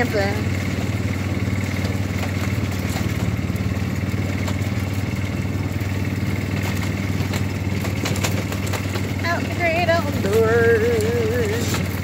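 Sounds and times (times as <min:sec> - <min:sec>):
vehicle engine running: 0:00.0 - 0:12.0
clicks and rattles: 0:01.6 - 0:12.0.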